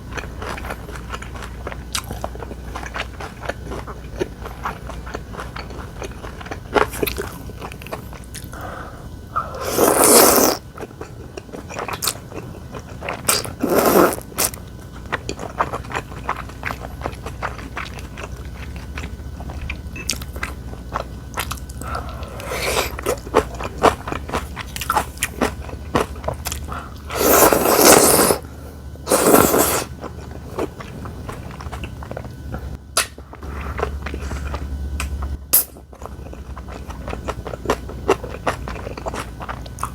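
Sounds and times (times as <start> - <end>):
person chewing and biting: 0.0 - 39.9.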